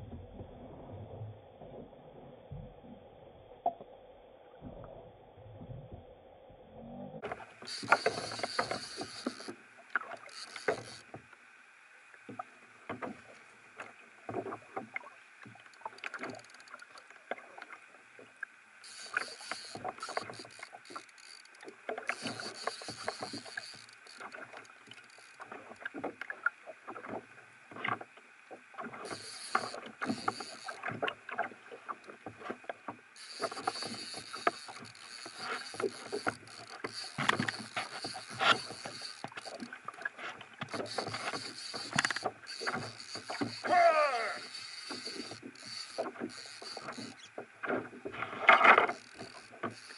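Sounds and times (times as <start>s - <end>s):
water slapping against hull: 7.2s - 11.3s, 12.2s - 49.9s.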